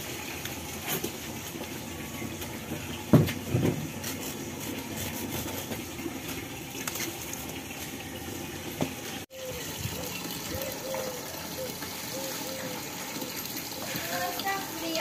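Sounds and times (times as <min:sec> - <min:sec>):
water running into bucket: 0:00.0 - 0:15.0.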